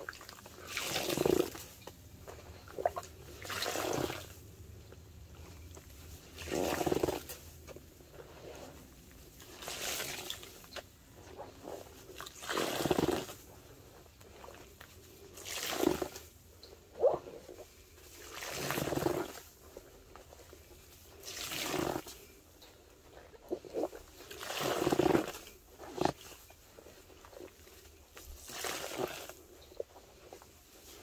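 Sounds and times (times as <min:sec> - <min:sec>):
wet sponge squelching: 0:00.0 - 0:22.4, 0:23.0 - 0:31.0.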